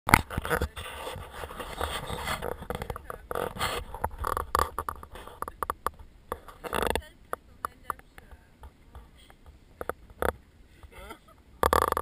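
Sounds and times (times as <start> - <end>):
knocks and rustles: 0.1 - 10.4.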